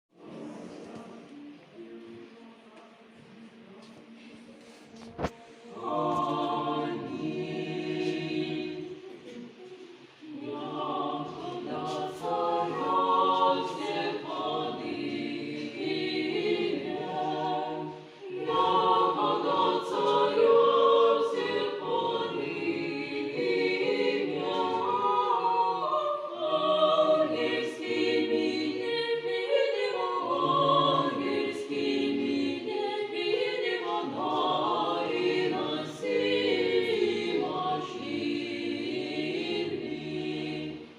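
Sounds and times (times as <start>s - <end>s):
people singing: 0.2s - 40.9s.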